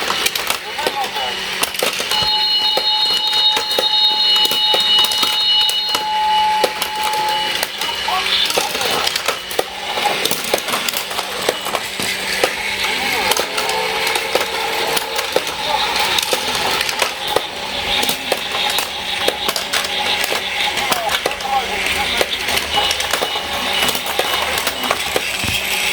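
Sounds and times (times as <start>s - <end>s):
toy trains clattering on track: 0.0s - 25.9s.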